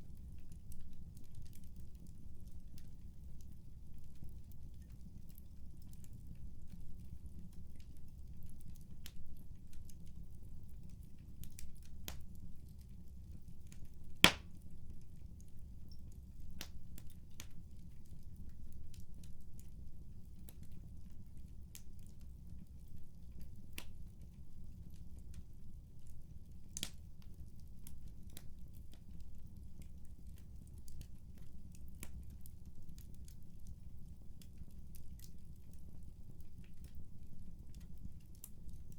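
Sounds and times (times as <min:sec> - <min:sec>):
wood fire crackling: 0:00.1 - 0:38.9.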